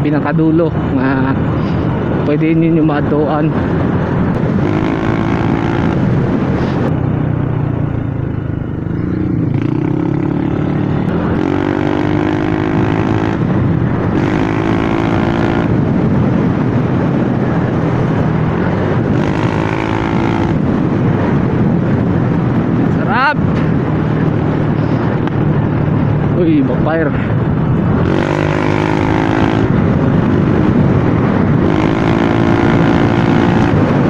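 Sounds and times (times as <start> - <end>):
motorcycle engine revving: 3.6 - 26.7, 27.3 - 34.0.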